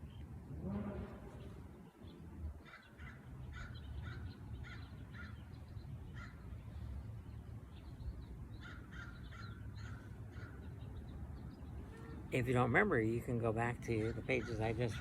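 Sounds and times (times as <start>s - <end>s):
bird calling: 1.0s - 12.7s, 13.8s - 15.0s.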